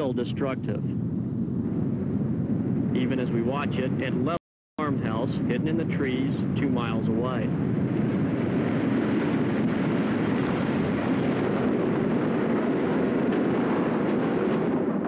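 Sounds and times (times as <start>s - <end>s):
tornado wind roaring: 0.0s - 15.0s.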